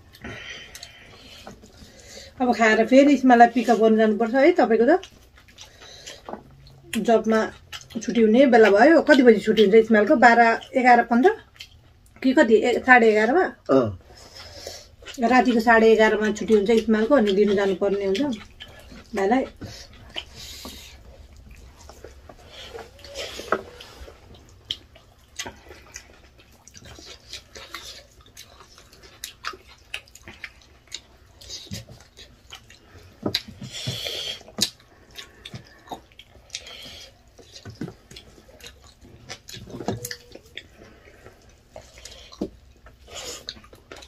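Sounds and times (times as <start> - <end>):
wet chewing and lip smacks: 0.0 - 2.4, 5.0 - 10.8, 11.4 - 12.2, 16.2 - 44.0.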